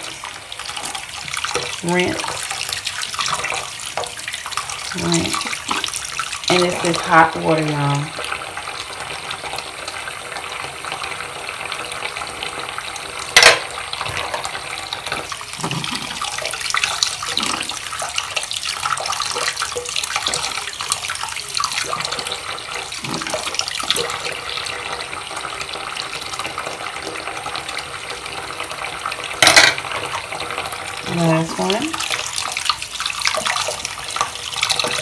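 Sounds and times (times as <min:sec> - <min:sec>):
plastic tubes being rinsed: 0:00.0 - 0:35.0
tap water running into sink: 0:00.0 - 0:35.0.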